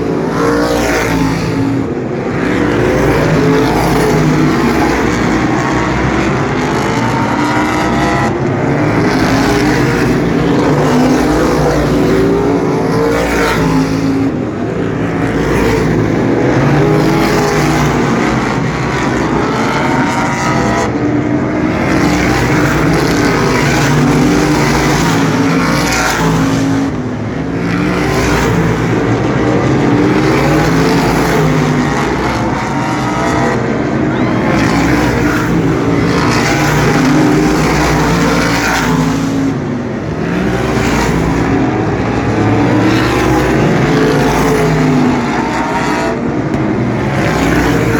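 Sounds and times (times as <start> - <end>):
race car engines passing: 0.0 - 47.9.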